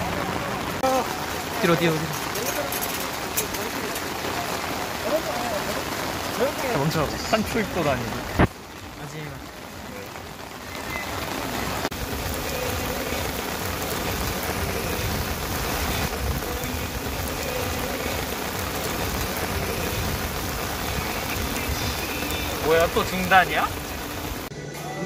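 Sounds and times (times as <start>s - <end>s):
heavy rain on pavement: 0.0s - 24.5s.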